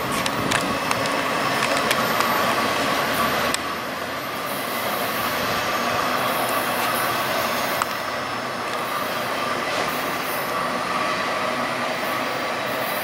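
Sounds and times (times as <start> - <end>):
train rolling on rails: 0.0 - 13.0.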